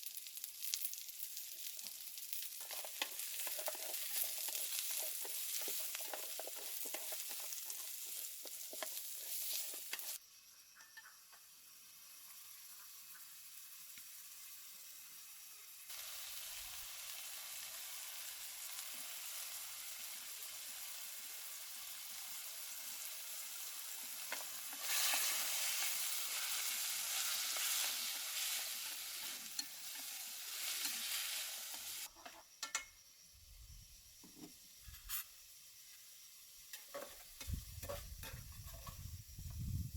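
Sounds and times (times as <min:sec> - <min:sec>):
food sizzling in a pan: 0:00.0 - 0:10.2, 0:10.8 - 0:33.1, 0:33.8 - 0:39.9.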